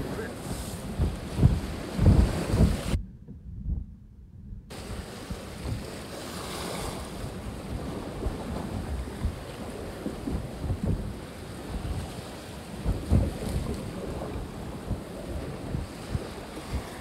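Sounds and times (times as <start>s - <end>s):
waves washing against boat: 0.0s - 3.0s, 4.7s - 17.0s
wind buffeting microphone: 0.0s - 17.0s.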